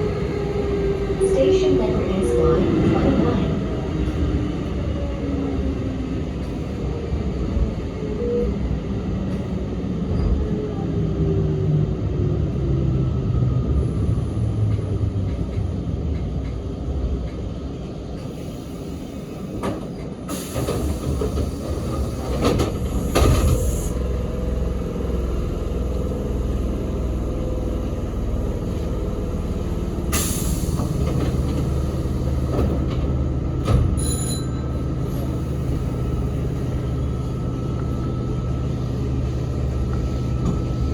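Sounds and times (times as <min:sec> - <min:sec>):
electric train running rumble: 0:00.0 - 0:40.9.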